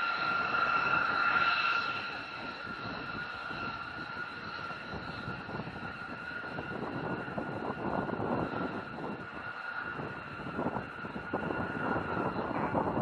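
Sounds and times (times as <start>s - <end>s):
jet engine whining: 0.0s - 13.0s.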